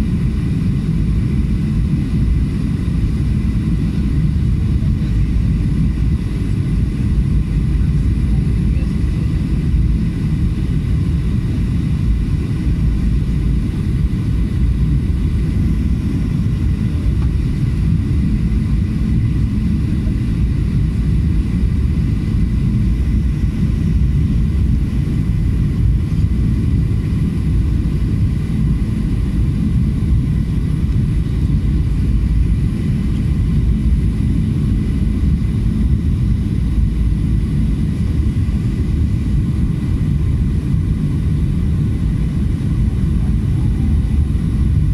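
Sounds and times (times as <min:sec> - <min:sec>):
jet engine and airflow roar: 0:00.0 - 0:44.9.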